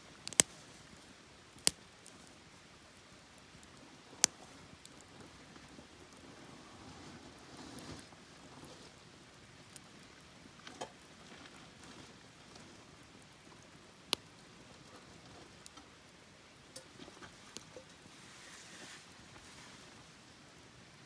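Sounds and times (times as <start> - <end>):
campfire crackling and popping: 0.0 - 6.5, 7.2 - 21.0.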